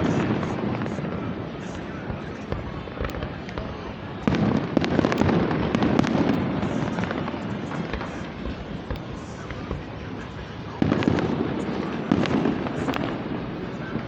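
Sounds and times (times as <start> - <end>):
crackling firework pops: 0.0 - 14.0.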